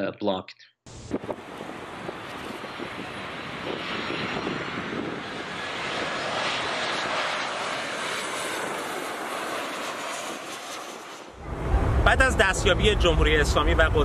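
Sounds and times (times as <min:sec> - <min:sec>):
jet airliner flying overhead: 0:00.9 - 0:14.0.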